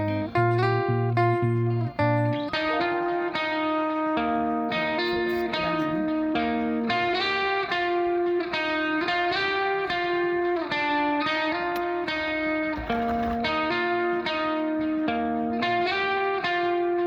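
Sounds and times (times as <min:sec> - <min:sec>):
guitar melody: 0:00.0 - 0:17.0.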